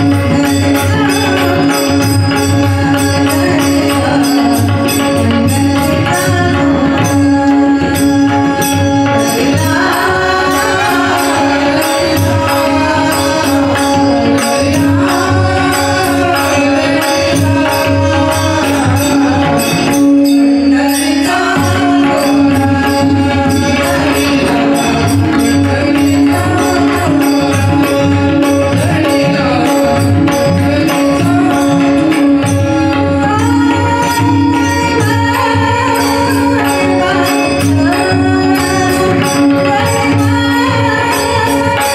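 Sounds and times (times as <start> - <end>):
drum playing fast rhythm: 0.0 - 41.9
woman singing: 0.0 - 41.9.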